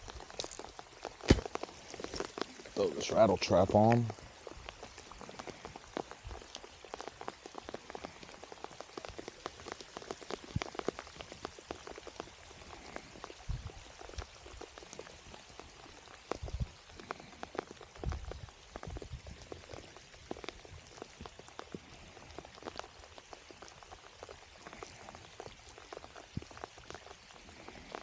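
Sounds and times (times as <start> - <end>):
rain drops ticking: 0.0 - 28.0.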